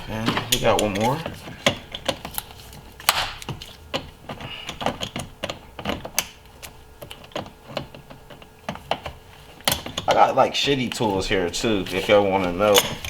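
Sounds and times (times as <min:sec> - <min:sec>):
clicks and knocks of tools and parts: 0:00.2 - 0:10.2, 0:10.9 - 0:13.0.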